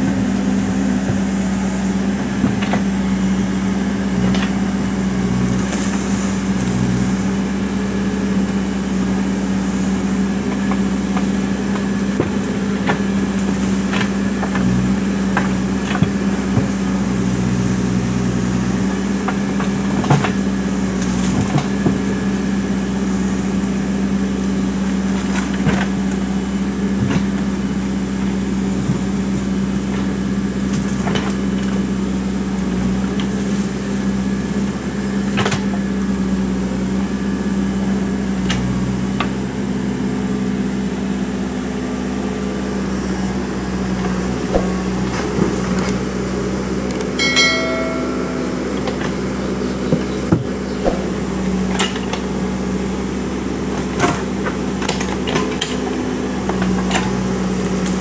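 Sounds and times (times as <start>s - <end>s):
backhoe diesel engine humming: 0.0s - 58.0s.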